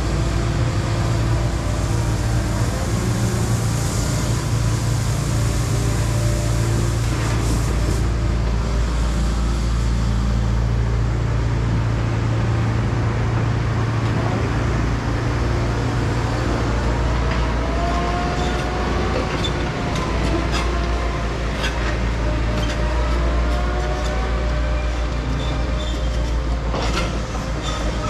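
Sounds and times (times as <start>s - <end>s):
excavator diesel engine: 0.0s - 28.0s.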